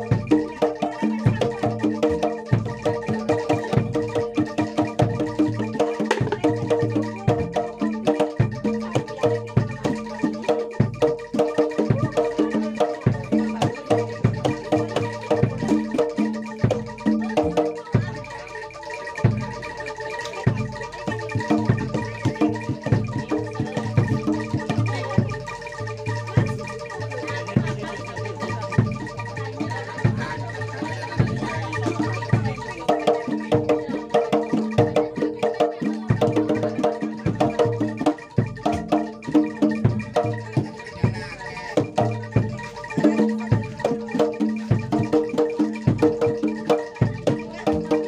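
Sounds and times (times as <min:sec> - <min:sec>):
drumming: 0:00.0 - 0:48.0
pitched metal percussion melody: 0:00.0 - 0:48.0.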